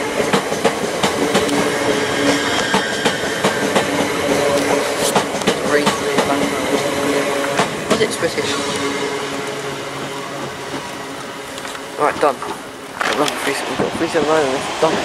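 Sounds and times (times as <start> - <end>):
train rumble: 0.0 - 15.0
train wheels clicking over rail joints: 0.0 - 15.0.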